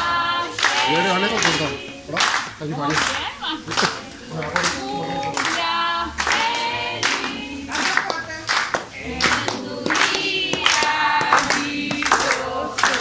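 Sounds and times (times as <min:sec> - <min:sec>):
group singing in unison: 0:00.0 - 0:13.0
people clapping in rhythm: 0:00.0 - 0:13.0.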